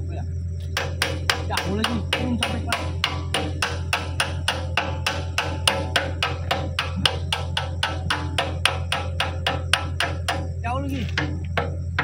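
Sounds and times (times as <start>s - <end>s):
steady low hum: 0.0s - 12.0s
rapid hammer blows: 0.7s - 12.0s.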